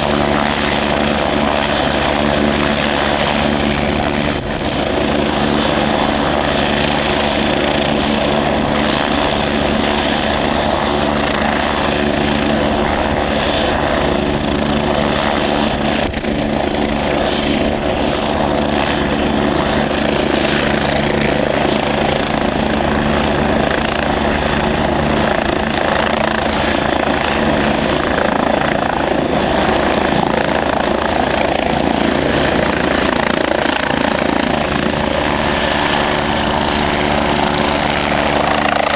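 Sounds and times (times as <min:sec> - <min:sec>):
helicopter rotor din: 0:00.0 - 0:38.9.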